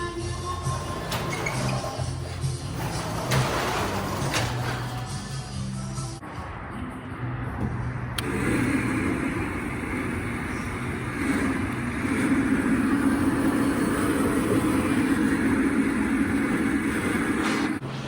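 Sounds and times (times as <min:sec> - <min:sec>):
motor vehicle engine drone: 0:00.0 - 0:18.0.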